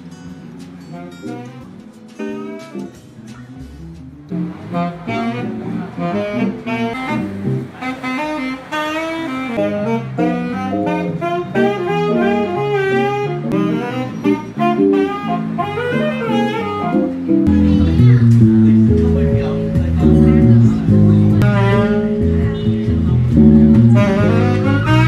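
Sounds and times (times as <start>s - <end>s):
low bass notes: 0.0s - 7.8s, 9.5s - 25.0s
electric guitar accompaniment: 0.0s - 8.3s, 9.5s - 25.0s
saxophone melody: 0.8s - 3.0s, 4.3s - 25.0s.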